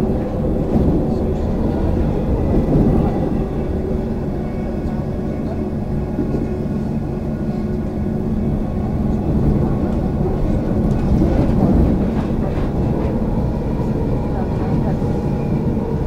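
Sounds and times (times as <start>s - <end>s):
electric train running rumble: 0.0s - 16.0s.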